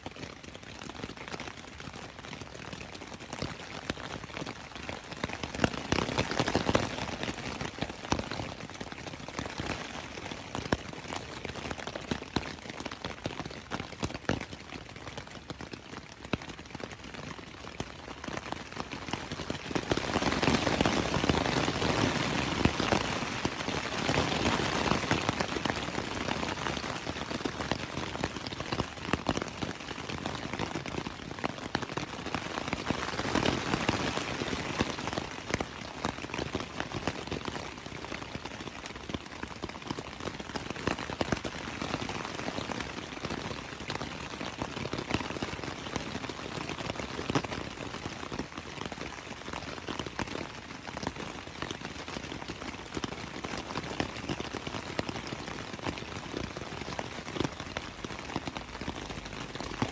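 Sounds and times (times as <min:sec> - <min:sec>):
rain on tent fabric: 0:00.0 - 0:59.9.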